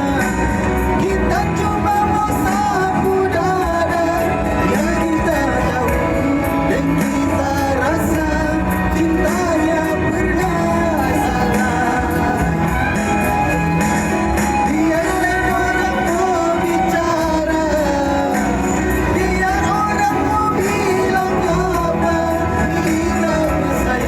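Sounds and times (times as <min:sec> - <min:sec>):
band accompaniment: 0:00.0 - 0:24.0
person singing: 0:00.0 - 0:24.0.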